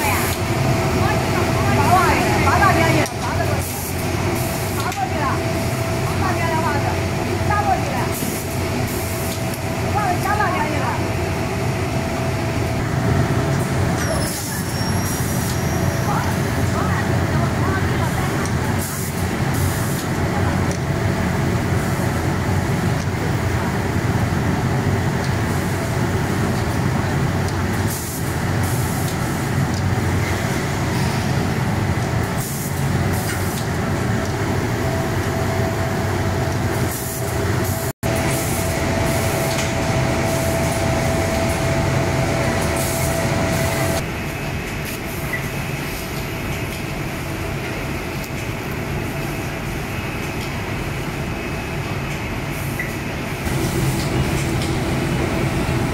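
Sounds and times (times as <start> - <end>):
machinery humming: 0.0 - 55.9.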